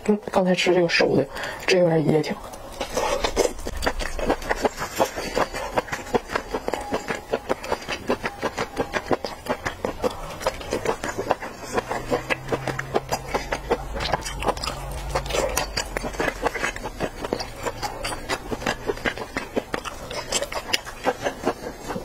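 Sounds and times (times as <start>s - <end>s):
chewing with wet mouth clicks: 1.4s - 22.0s.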